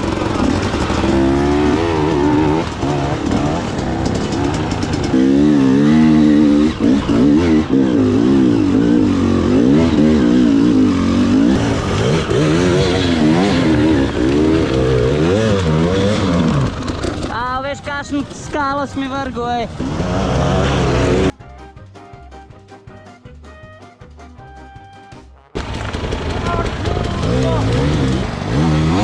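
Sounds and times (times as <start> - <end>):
dirt bike engine revving: 0.0 - 17.6, 19.1 - 21.4, 25.6 - 29.0.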